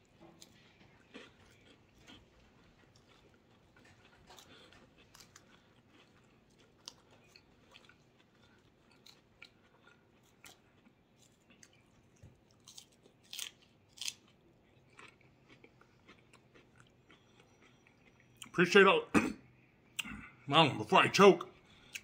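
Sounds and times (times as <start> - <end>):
chewing crisp salad: 0.0 - 18.6, 21.5 - 22.0.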